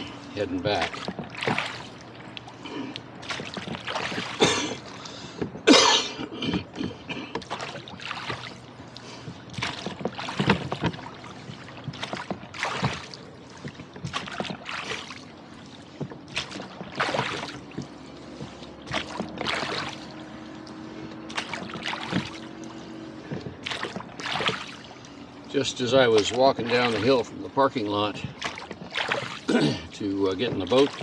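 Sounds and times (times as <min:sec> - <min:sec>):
oars splashing in water: 0:00.0 - 0:31.0.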